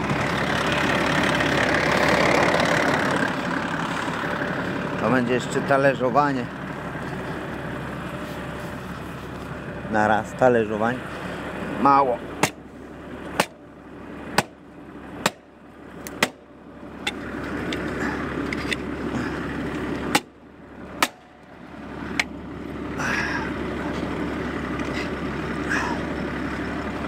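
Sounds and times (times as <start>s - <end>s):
tractor engine rumbling: 0.0s - 27.0s.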